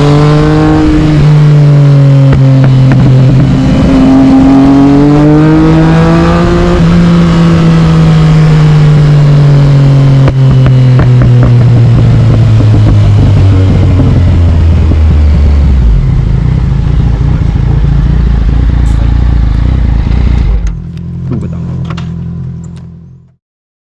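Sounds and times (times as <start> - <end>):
motorcycle engine running: 0.0 - 23.4.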